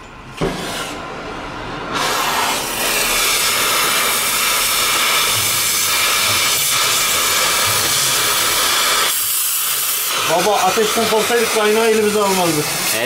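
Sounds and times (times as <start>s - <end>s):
welding torch hissing: 1.9s - 13.0s.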